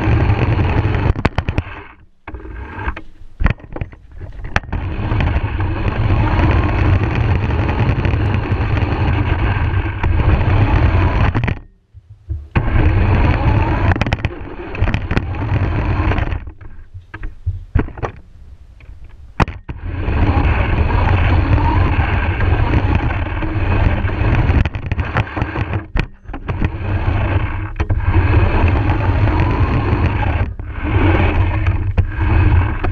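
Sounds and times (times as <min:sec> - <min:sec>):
toy car motor running: 0:00.0 - 0:03.0, 0:04.3 - 0:11.6, 0:12.6 - 0:16.5, 0:19.6 - 0:32.9
small clicks: 0:00.0 - 0:32.9.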